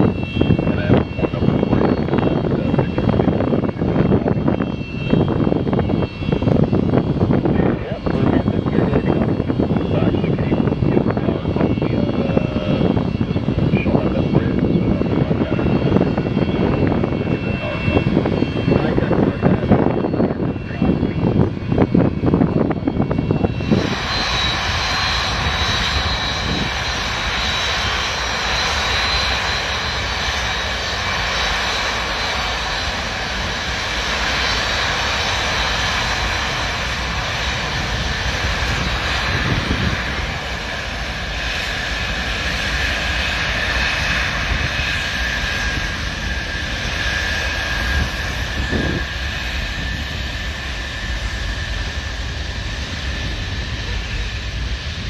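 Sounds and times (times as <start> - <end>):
high whining jet tones: 0.0 - 55.0
jet engines roaring: 0.0 - 55.0.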